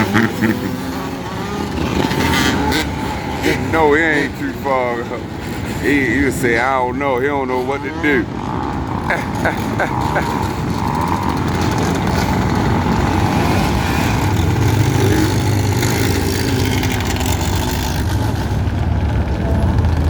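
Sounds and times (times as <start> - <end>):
engine revving: 0.0 - 20.0
street traffic engines rumbling: 0.0 - 20.0.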